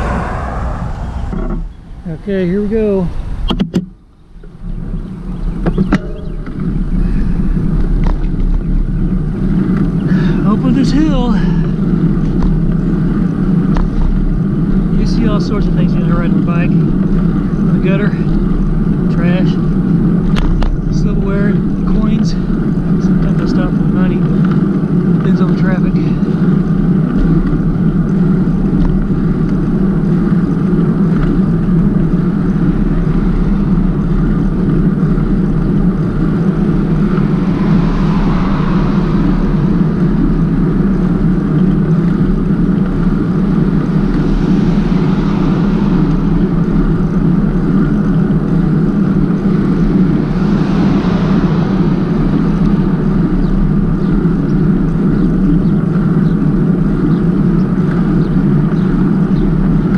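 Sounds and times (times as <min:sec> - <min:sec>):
vehicles passing: 0:00.0 - 0:59.9
wind and road noise: 0:00.0 - 0:59.9.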